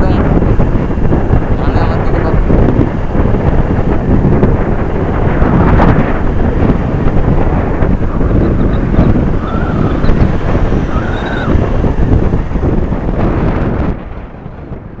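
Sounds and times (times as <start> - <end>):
motorcycle engine and tyre rumble: 0.0 - 15.0
wind buffeting microphone: 0.0 - 15.0.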